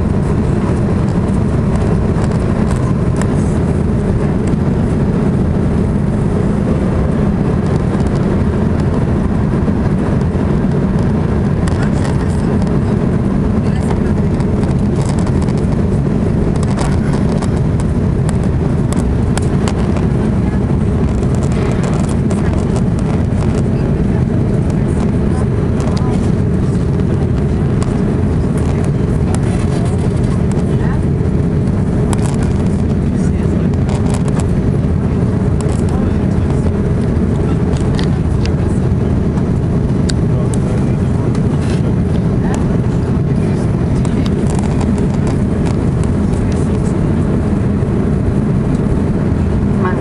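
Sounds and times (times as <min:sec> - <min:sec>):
deep jet engine rumble: 0:00.0 - 0:50.0.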